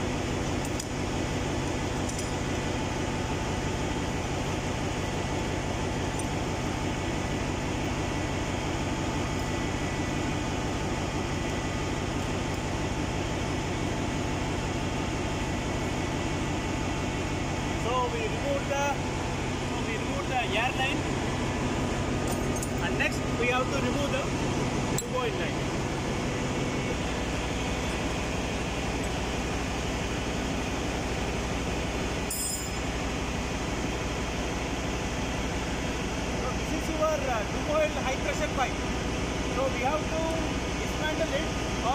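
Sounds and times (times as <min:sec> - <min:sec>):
engine-room machinery drone: 0:00.0 - 0:41.9.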